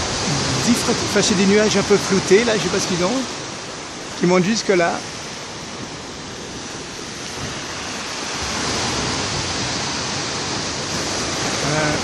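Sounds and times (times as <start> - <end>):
surf breaking below a seawall: 0.0 - 12.0.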